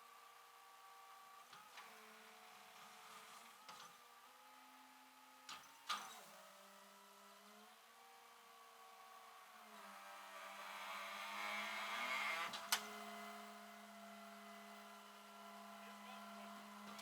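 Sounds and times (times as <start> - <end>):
faint mechanical whir and hum: 0.0 - 17.0.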